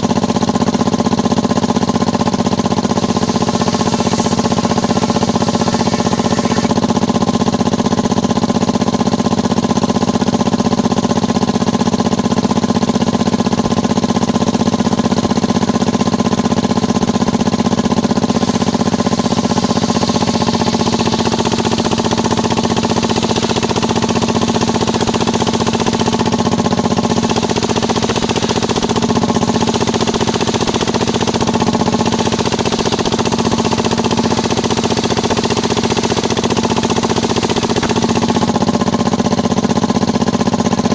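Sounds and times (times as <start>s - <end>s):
circular sawmill machine drone: 0.0s - 40.9s.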